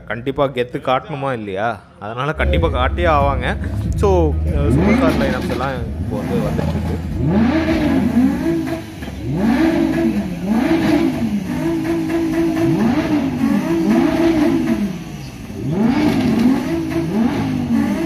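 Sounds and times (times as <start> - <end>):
car engine revving: 2.4 - 18.0.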